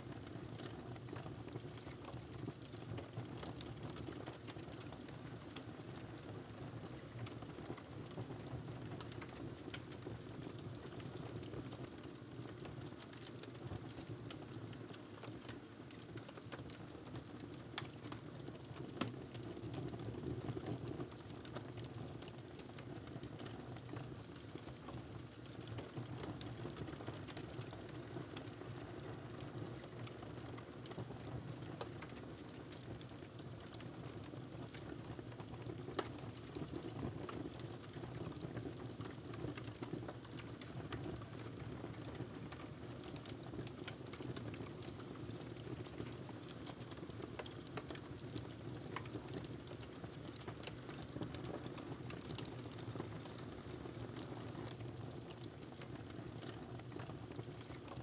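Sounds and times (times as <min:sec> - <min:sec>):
wood fire crackling: 0:08.4 - 0:58.0.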